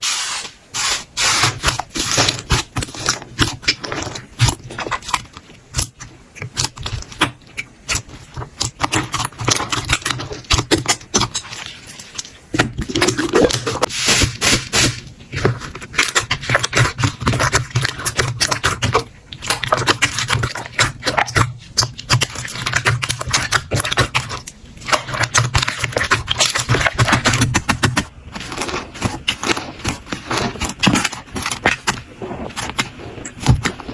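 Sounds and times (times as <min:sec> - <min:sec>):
slime crackling and popping: 0:01.2 - 0:33.9.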